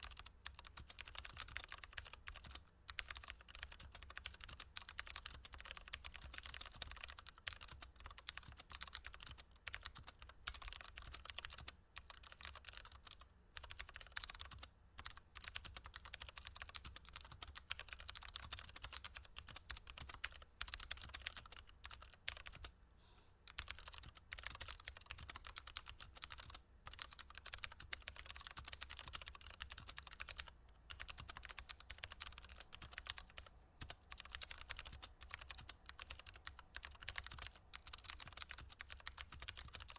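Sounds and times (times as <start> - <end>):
typing on mechanical keyboard: 0.0 - 22.7, 23.5 - 39.9
faint low hum: 0.0 - 39.9.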